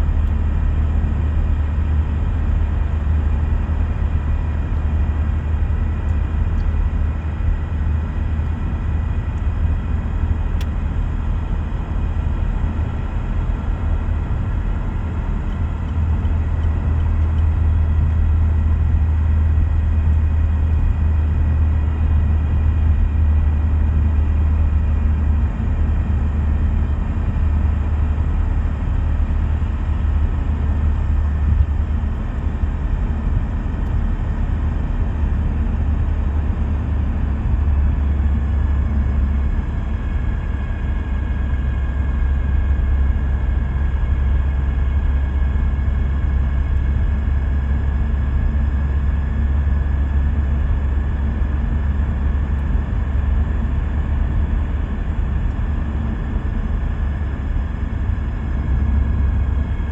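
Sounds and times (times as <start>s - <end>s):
car road and drivetrain rumble: 0.0s - 59.9s.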